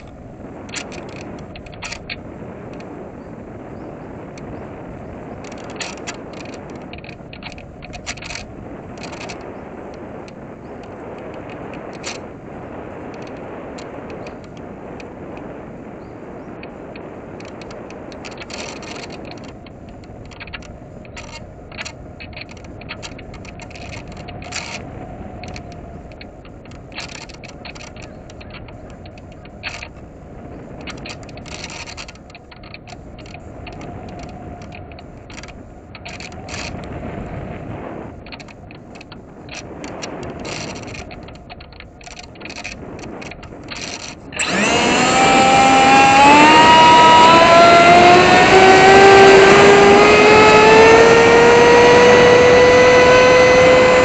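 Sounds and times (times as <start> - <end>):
airflow rushing over microphone: 0.0 - 54.0
short crackles: 0.0 - 54.0.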